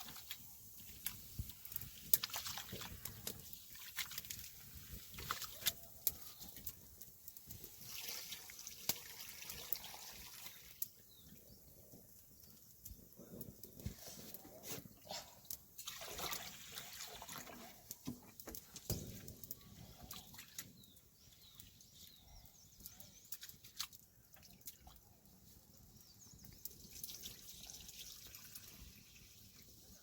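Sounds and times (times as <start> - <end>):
water dripping and trickling: 0.0 - 14.4, 15.2 - 30.0.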